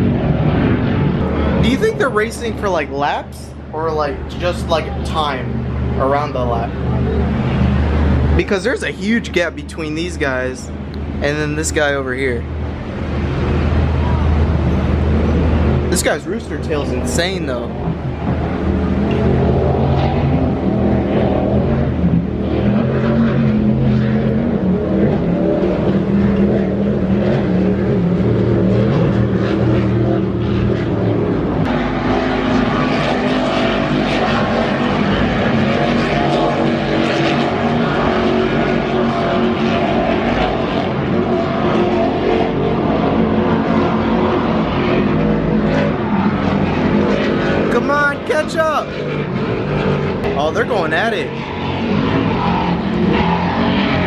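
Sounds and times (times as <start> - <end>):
powerboat engines droning: 0.0 - 54.0.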